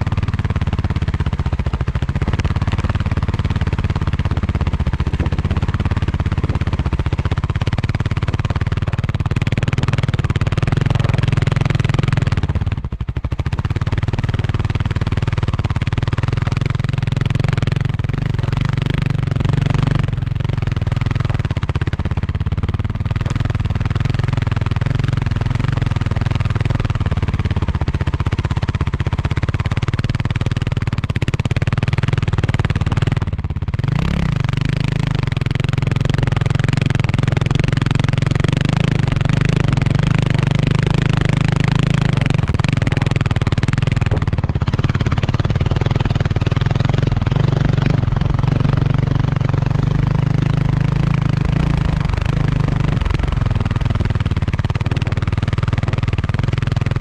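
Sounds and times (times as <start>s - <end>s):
dirt bike engine running: 0.0s - 57.0s
wind and road noise: 0.0s - 57.0s.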